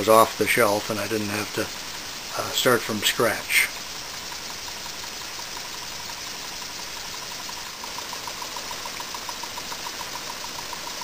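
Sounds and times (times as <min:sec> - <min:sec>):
fast regular ticking: 0:00.0 - 0:11.0
model steam engines hissing: 0:00.0 - 0:11.0.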